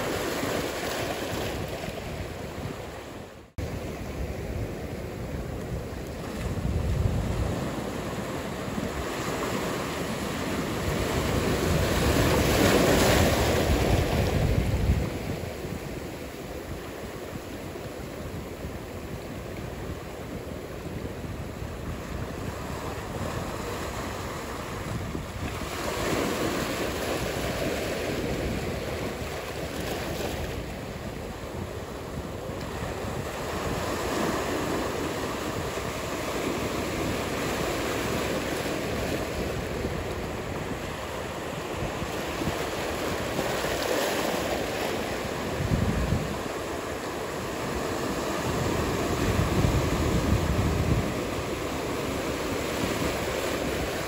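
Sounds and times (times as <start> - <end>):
ocean surf rushing: 0.0 - 54.0
wind noise on microphone: 0.0 - 54.0.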